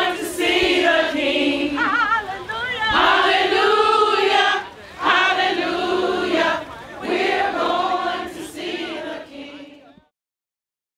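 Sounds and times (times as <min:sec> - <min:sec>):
group of voices singing: 0:00.0 - 0:10.1.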